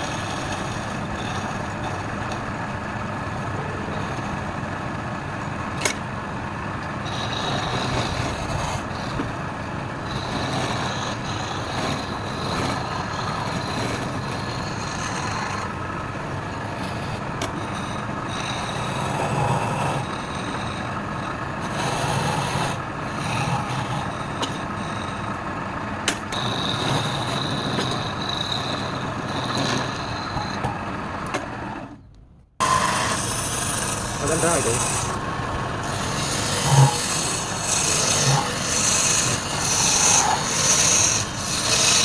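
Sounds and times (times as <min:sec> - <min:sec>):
wood lathe running: 0:00.0 - 0:31.9, 0:32.6 - 0:42.0.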